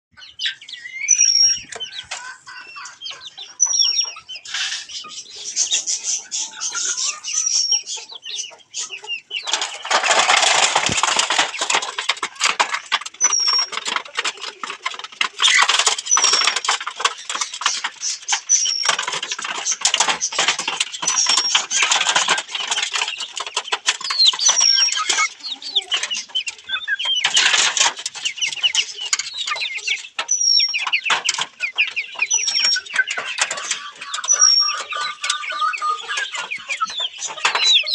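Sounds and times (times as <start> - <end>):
chickens clucking and scuffling: 0.2 - 37.9.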